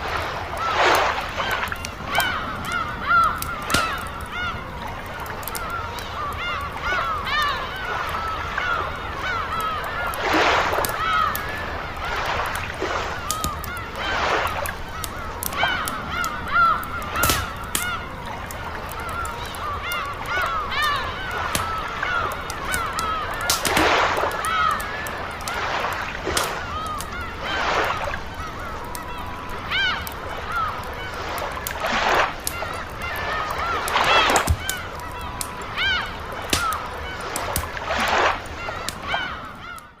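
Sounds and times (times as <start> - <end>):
waves washing in: 0.0 - 39.8
campfire crackling and popping: 0.0 - 39.9
seagulls calling: 0.0 - 40.0.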